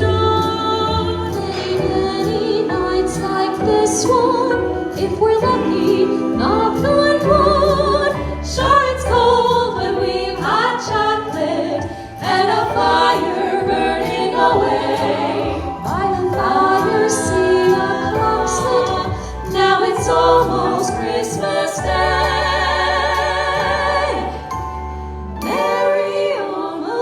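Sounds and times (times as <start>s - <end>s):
backing music: 0.0s - 27.0s
vocal group singing in harmony: 0.0s - 27.0s.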